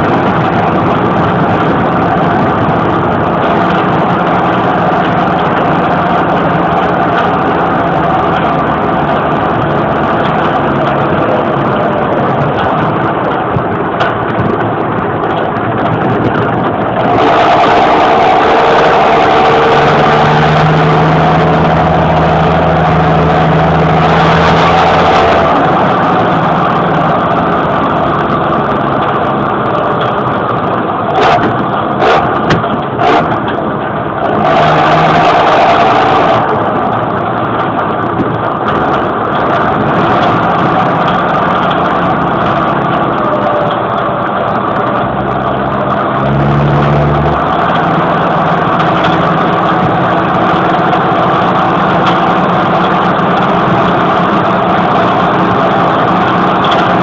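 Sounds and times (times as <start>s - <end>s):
unmuffled diesel tractor engine: 0.0s - 57.0s.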